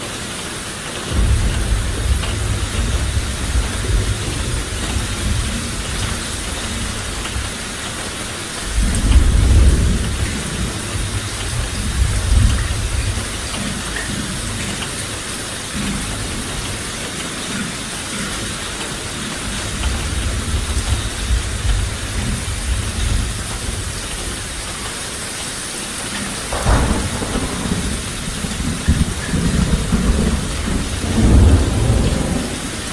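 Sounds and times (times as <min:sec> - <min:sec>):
steady rain hissing: 0:00.0 - 0:32.9
low rumble of thunder: 0:01.1 - 0:15.0, 0:19.1 - 0:25.2, 0:26.0 - 0:32.9.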